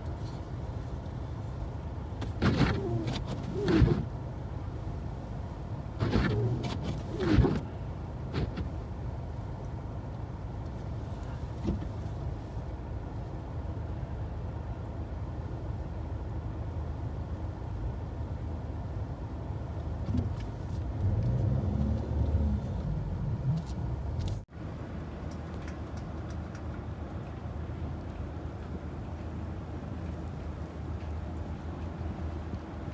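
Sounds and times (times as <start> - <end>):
vehicle engine rumble: 0.0 - 32.9.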